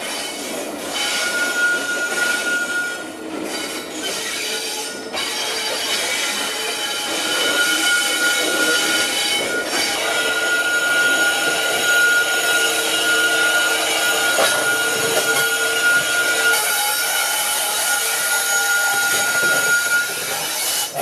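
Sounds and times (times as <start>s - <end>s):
diesel locomotive hauling: 0.0s - 21.0s
train wheels squealing: 0.0s - 21.0s.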